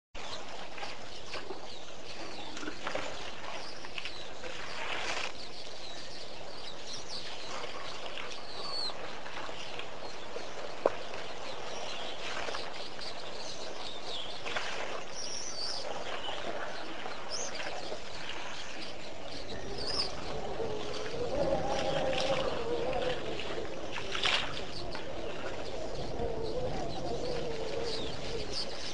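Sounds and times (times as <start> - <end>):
birds chirping: 0.2 - 28.9.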